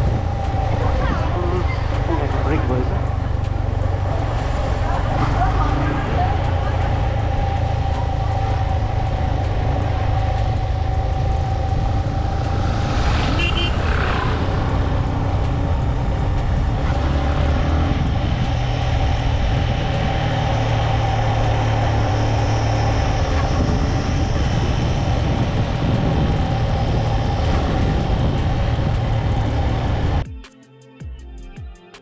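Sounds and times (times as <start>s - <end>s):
motorcycle engine droning: 0.0s - 30.2s
wind rush on microphone: 0.0s - 30.3s.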